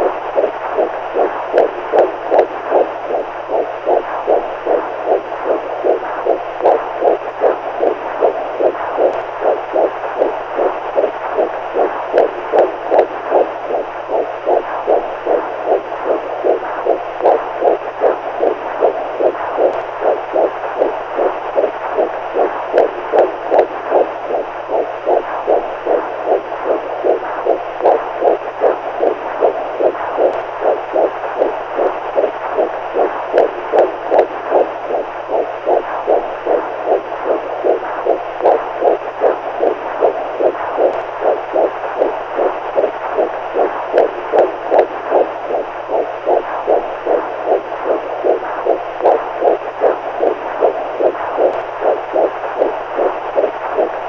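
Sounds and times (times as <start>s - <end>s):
faint steady hum: 0.0s - 54.0s
heartbeat pulse: 0.0s - 54.0s.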